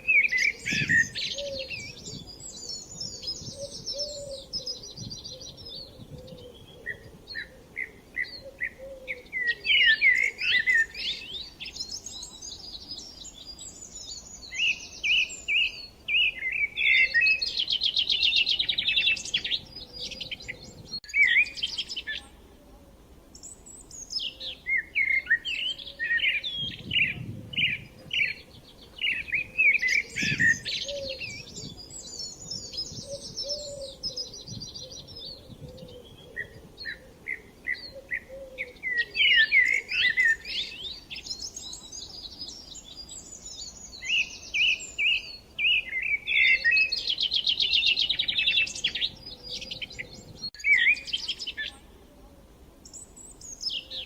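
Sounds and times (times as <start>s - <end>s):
songbirds chorus: 0.0s - 54.0s.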